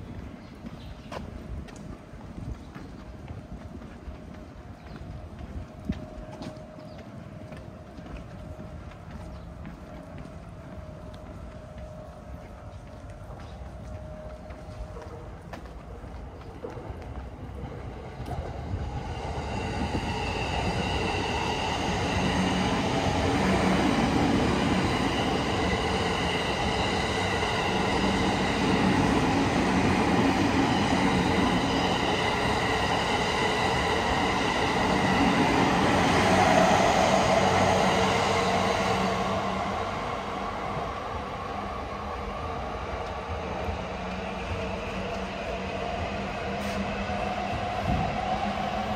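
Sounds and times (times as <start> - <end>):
electric train passing: 1.4 - 48.9.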